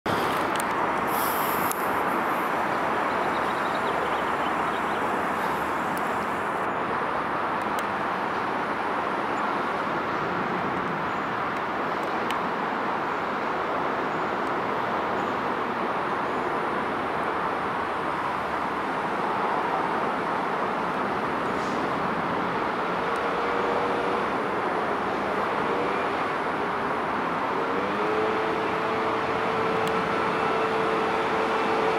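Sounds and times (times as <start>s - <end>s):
traffic hum: 0.0s - 31.9s.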